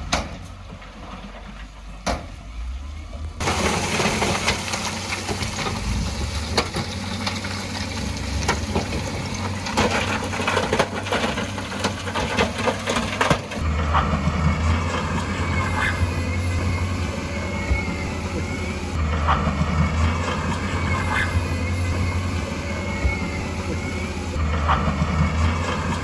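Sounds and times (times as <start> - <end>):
heavy machinery engine hum: 0.0 - 26.0.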